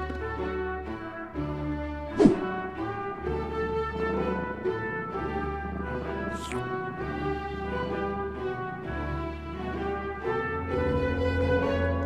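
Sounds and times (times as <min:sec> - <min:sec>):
music of slow held notes: 0:00.0 - 0:12.0.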